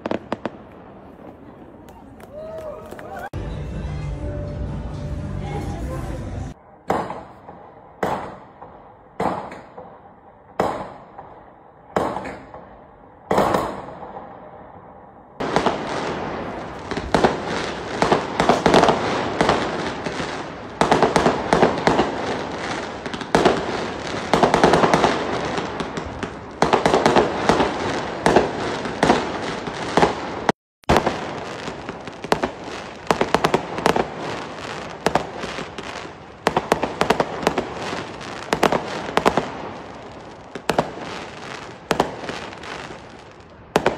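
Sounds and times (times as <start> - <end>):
firework barrage bangs and crackling: 0.0 - 2.6, 5.5 - 43.9.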